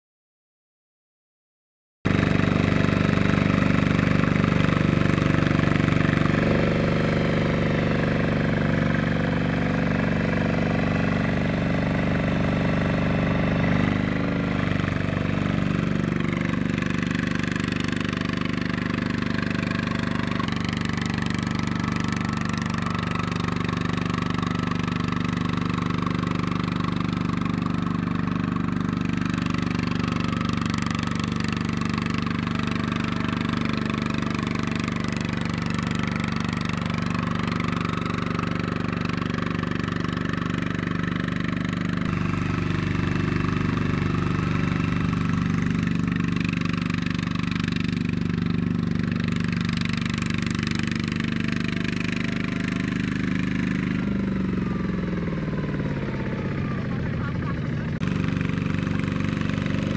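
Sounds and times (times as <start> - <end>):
diesel tractor engine knocking: 3.0 - 59.9.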